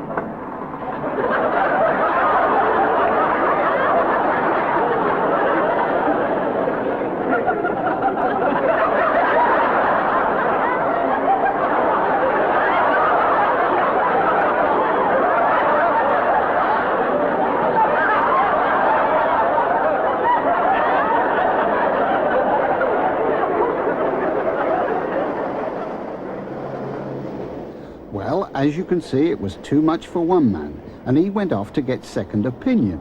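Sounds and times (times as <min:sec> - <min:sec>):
studio audience laughing: 0:00.5 - 0:31.1.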